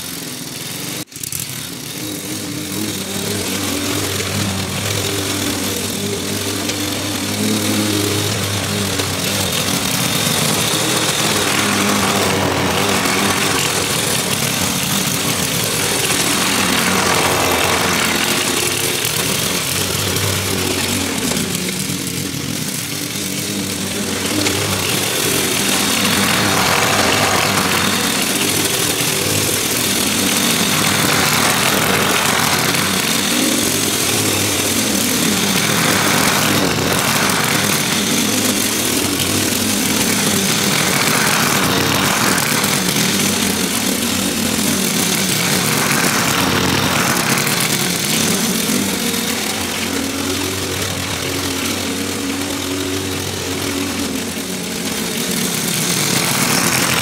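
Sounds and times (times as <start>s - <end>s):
lawn mower mowing grass: 0.0s - 57.0s.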